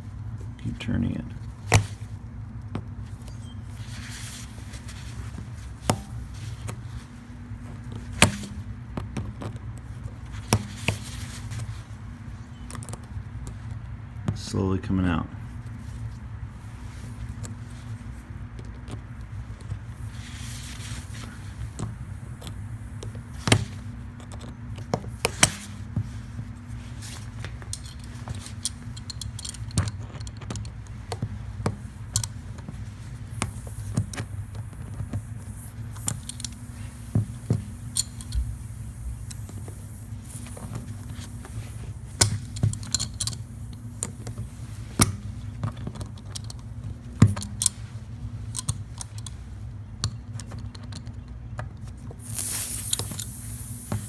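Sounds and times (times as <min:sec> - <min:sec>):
steady low hum: 0:00.0 - 0:50.8, 0:51.7 - 0:54.0.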